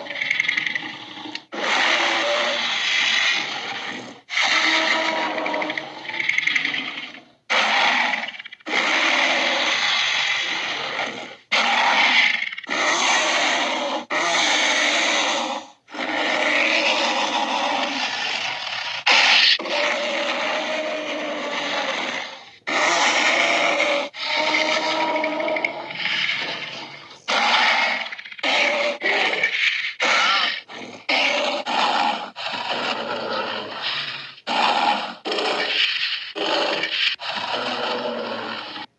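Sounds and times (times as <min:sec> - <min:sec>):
raspy dinosaur roars: 0:00.0 - 0:38.9.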